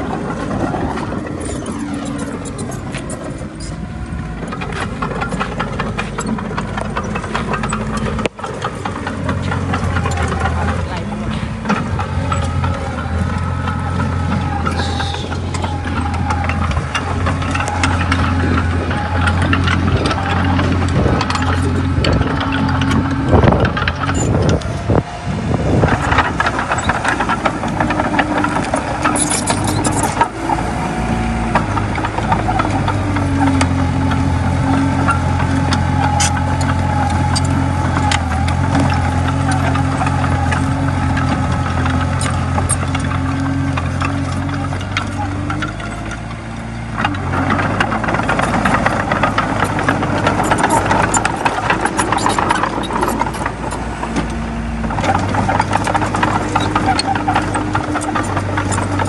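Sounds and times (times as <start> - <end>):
bulldozer diesel engine running: 0.0 - 59.0
metallic clicks and clanks: 0.1 - 25.0, 25.8 - 59.0.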